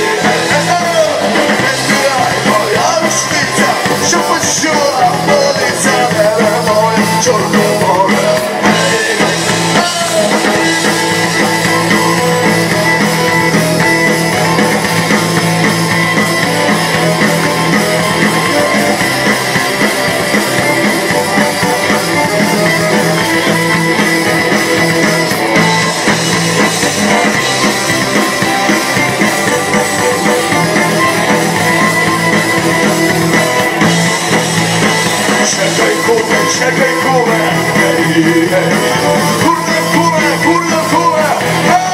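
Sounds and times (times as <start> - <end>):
bass guitar: 0.0 - 41.9
drum kit: 0.0 - 41.9
electric guitar: 0.0 - 41.9.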